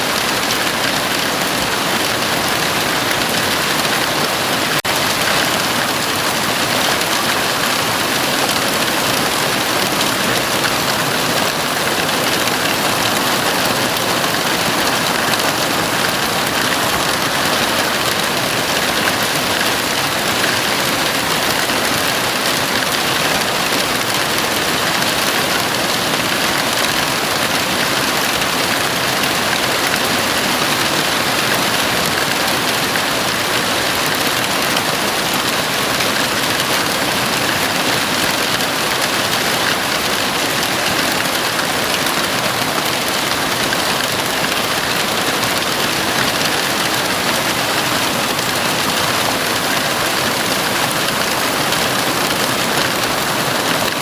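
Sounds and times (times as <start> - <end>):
heavy rain on roof: 0.0 - 54.0.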